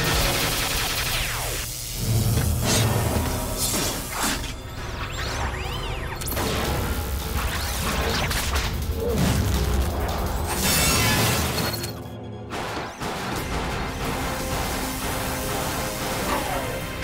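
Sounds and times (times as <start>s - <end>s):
action music: 0.0s - 17.0s.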